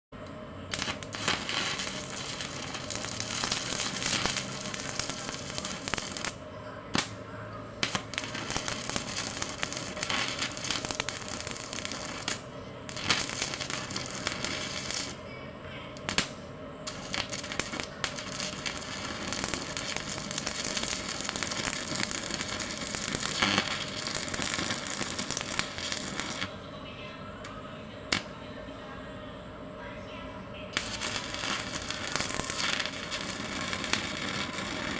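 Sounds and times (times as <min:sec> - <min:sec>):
welding crackling and popping: 0:00.7 - 0:07.1, 0:07.8 - 0:15.2, 0:16.0 - 0:26.5, 0:30.8 - 0:34.9.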